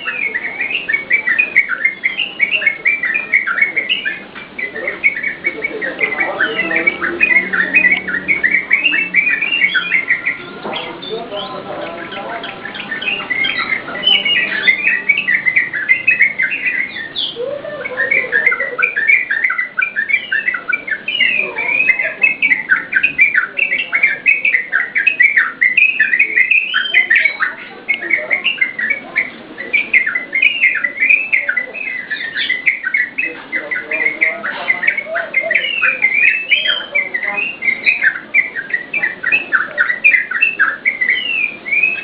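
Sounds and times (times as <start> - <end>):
bulbul singing: 0.0 - 42.0.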